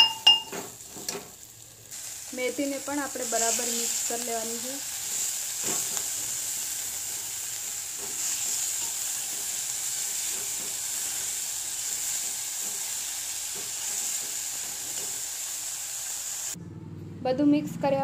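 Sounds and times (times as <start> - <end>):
vegetables sizzling in hot oil: 0.3 - 16.6.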